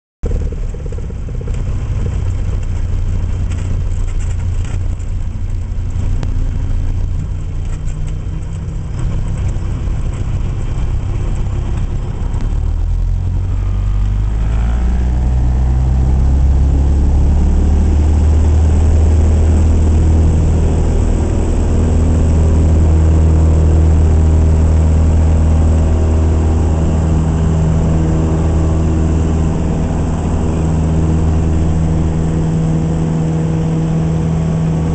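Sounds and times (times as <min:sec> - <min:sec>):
propeller plane engine: 0:00.2 - 0:34.9.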